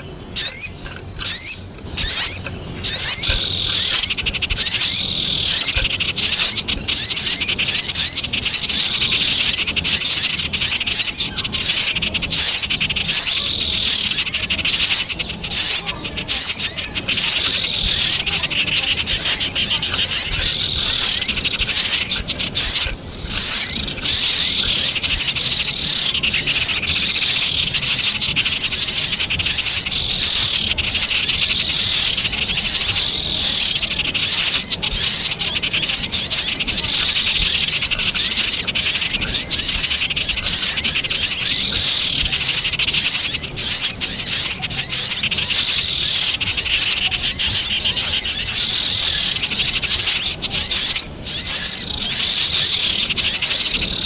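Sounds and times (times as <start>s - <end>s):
chattering bird calls: 0.0s - 54.0s
high-pitched bird chirps: 0.0s - 54.0s.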